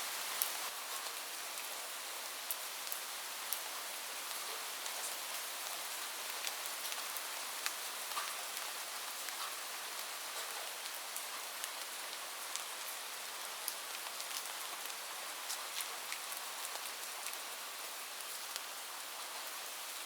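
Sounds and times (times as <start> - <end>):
heavy rain on a roof: 0.0 - 20.0.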